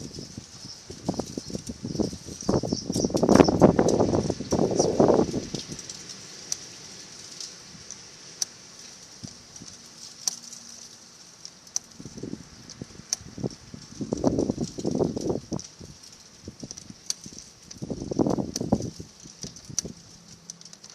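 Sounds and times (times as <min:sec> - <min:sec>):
rustling handling noise: 0:00.0 - 0:20.9.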